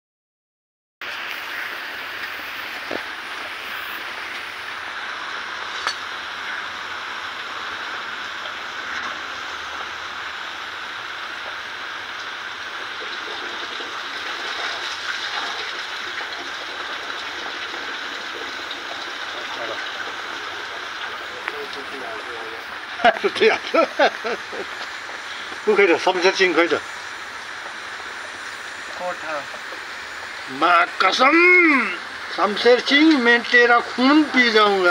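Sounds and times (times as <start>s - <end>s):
welding torch flame hissing: 1.0s - 34.9s.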